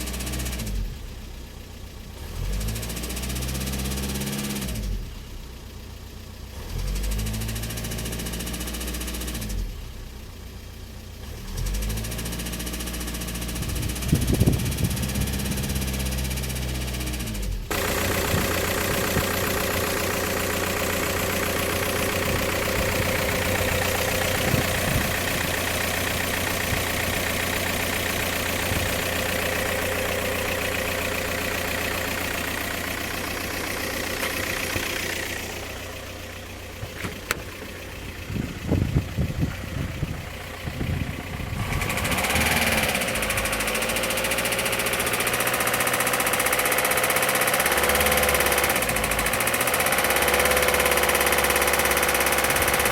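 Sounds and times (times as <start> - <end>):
diesel engine running with knock: 0.0 - 52.9.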